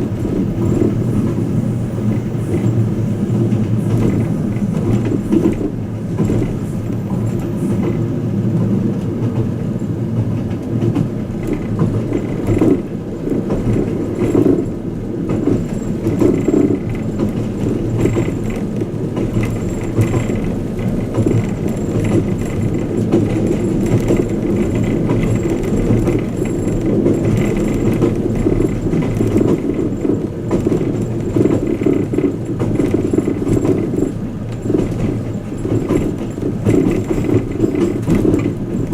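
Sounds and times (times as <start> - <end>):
train car rattles and clicks: 0.0 - 38.9
wheels rumbling on rail: 0.0 - 38.9.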